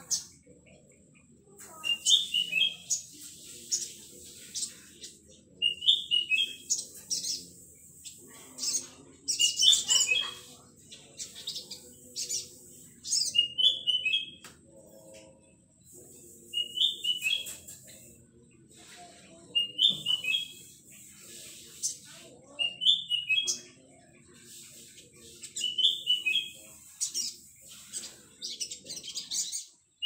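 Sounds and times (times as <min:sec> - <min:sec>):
bird twittering song: 0:00.0 - 0:30.0.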